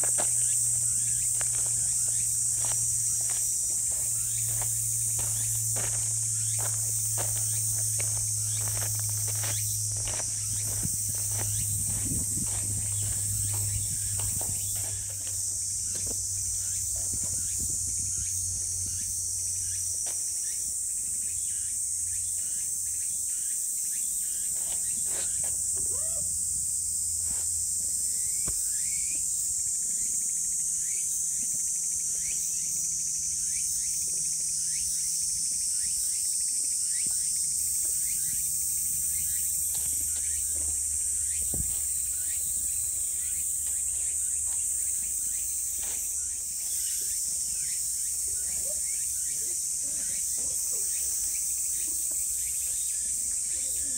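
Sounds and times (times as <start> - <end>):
insect chorus: 0.0 - 53.9
short insect chirps: 0.0 - 53.9.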